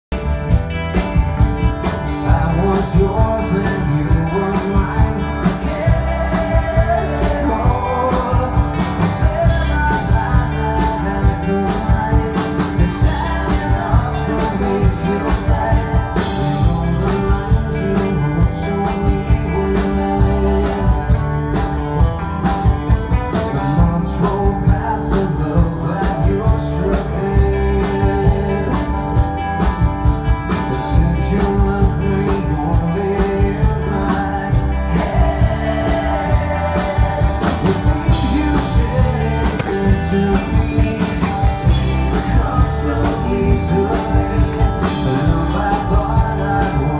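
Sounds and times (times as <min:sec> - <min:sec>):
bass guitar: 0:00.0 - 0:46.9
drums: 0:00.0 - 0:46.9
electric guitars: 0:00.1 - 0:46.9
man singing lead vocal: 0:02.0 - 0:21.8, 0:23.1 - 0:29.5, 0:30.4 - 0:46.9.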